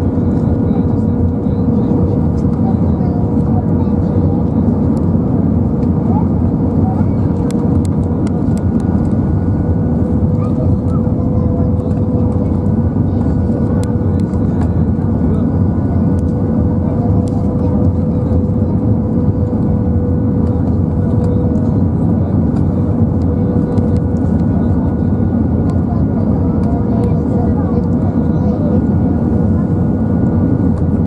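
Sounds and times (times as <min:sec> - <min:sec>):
airplane cabin airflow and engines: 0:00.0 - 0:31.0.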